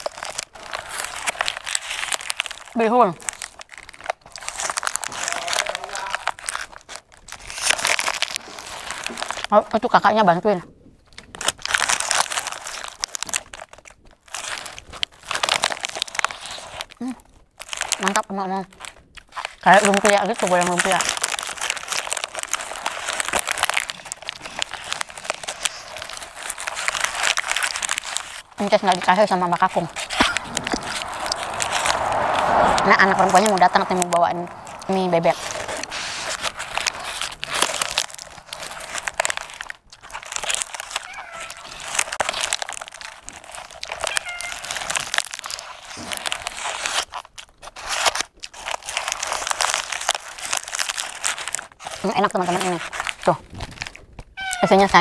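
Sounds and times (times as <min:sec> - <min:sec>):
chewing crispy pastry: 0:00.0 - 0:55.0
paper wrapper crinkling: 0:00.0 - 0:55.0.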